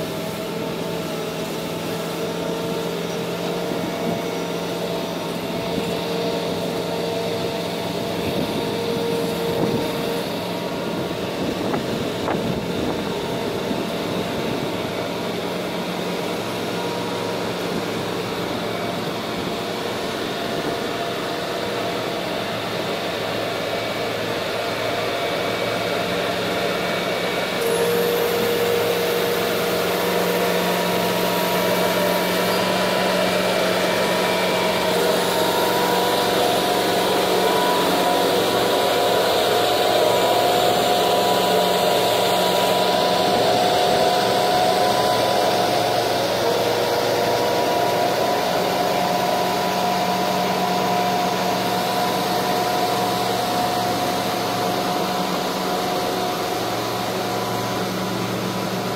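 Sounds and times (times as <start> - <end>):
high whine: 0.0 - 58.9
truck engine drone: 0.0 - 58.9.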